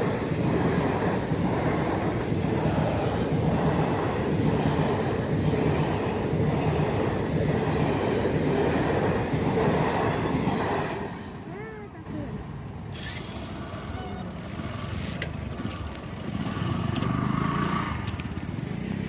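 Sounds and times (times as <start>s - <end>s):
train rolling on rails: 0.0s - 19.0s.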